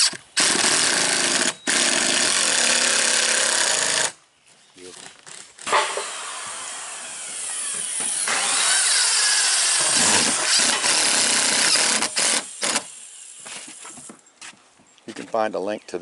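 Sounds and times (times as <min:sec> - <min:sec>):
cordless drill driving screw: 0:00.0 - 0:04.2, 0:05.3 - 0:14.1.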